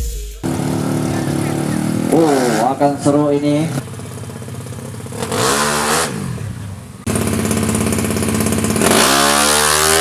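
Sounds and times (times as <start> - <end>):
loud rapid engine note: 0.4 - 4.0, 5.1 - 10.0
motorcycle engine revving: 0.4 - 10.0.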